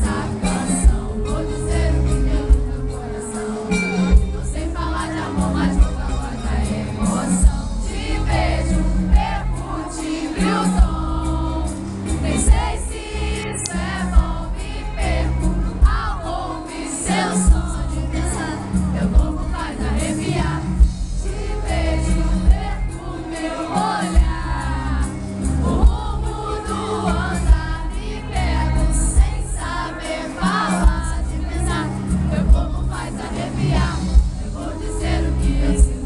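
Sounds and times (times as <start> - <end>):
crowd singing along: 0.0 - 36.0
live pop music: 0.0 - 36.0.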